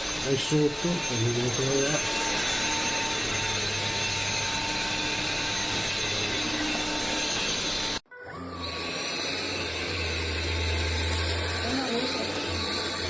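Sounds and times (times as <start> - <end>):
stick vacuum running: 0.0 - 13.0.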